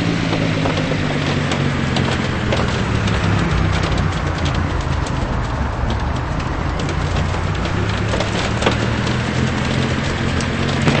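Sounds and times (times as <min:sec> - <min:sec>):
heavy rain pouring: 0:00.0 - 0:11.0
raindrops tapping: 0:00.0 - 0:11.0.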